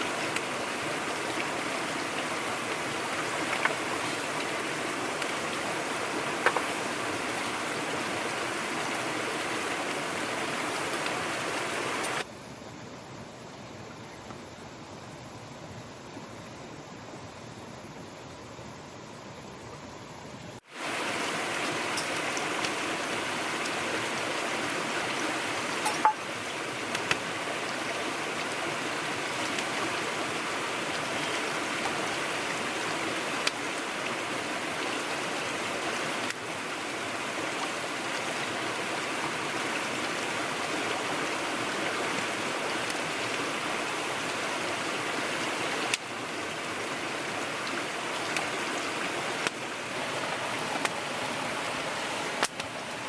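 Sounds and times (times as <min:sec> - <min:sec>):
running water rushing: 0:00.0 - 0:12.3, 0:20.6 - 0:53.0.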